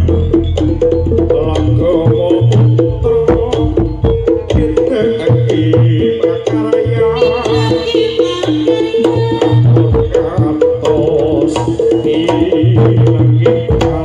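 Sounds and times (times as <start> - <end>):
drum strokes: 0.0 - 14.0
gamelan ensemble playing: 0.0 - 14.0.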